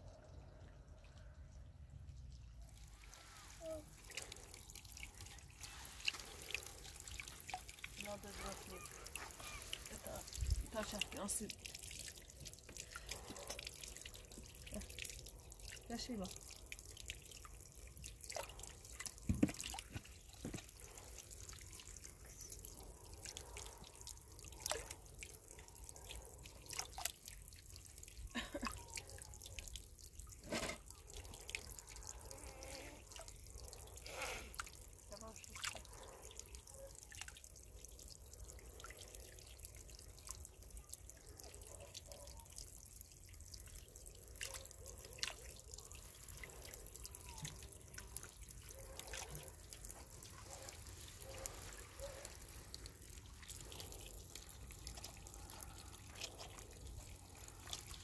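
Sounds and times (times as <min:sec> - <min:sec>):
water dripping onto stone and soil: 0:00.0 - 0:58.0.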